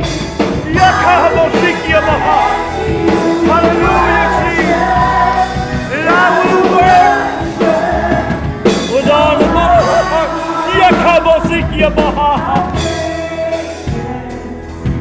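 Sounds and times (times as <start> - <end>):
singers singing together: 0.0 - 14.8
band accompaniment: 0.0 - 15.0.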